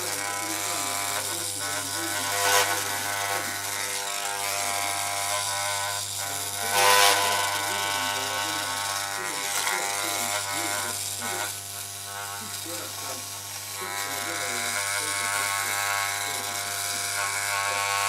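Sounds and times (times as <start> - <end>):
clipper blade rasping through hair: 0.0 - 18.0
electric hair clippers buzzing: 0.0 - 18.0.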